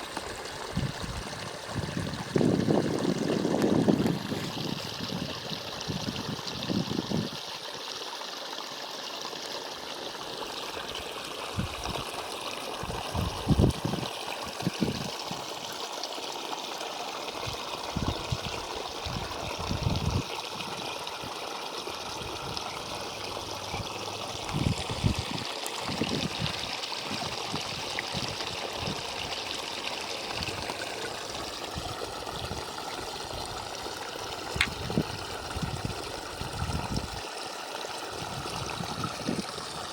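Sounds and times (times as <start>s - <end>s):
water running in a stream: 0.0s - 39.9s.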